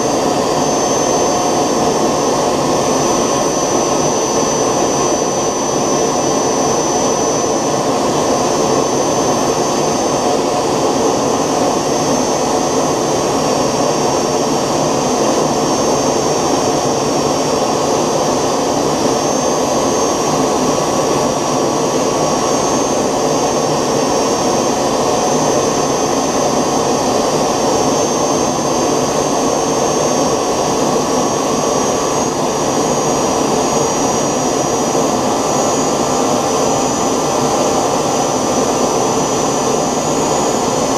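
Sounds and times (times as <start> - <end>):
model jet engine hissing and whining: 0.0 - 40.9.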